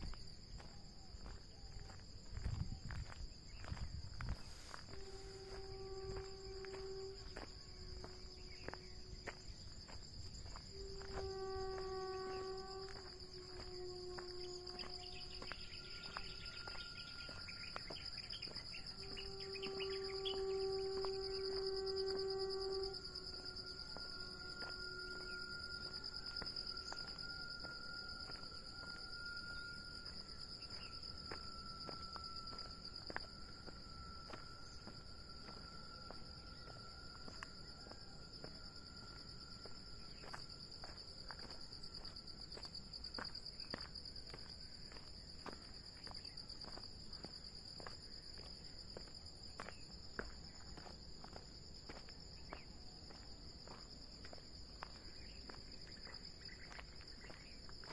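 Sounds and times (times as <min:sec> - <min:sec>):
insect chorus shrilling: 0:00.0 - 0:57.9.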